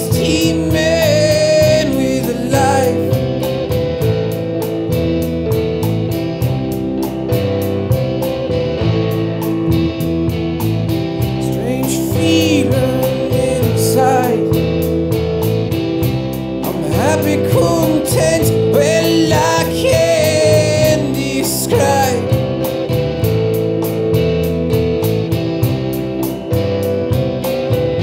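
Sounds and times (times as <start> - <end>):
bending lead melody: 0.0 - 28.0
rock band playing: 0.0 - 28.0.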